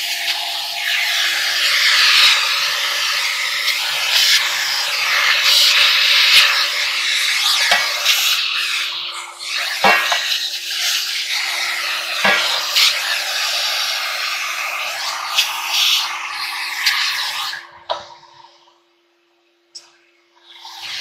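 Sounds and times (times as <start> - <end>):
vacuum cleaner running: 0.0 - 19.2, 20.0 - 21.0.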